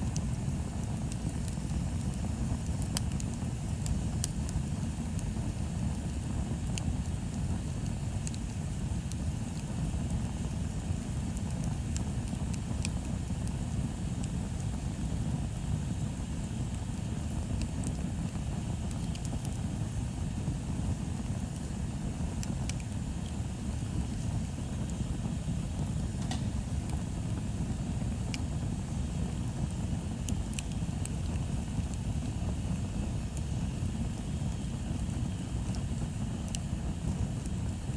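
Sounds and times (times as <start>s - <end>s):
bonfire crackling and popping: 0.0s - 37.9s
fire low rumble: 0.0s - 37.9s.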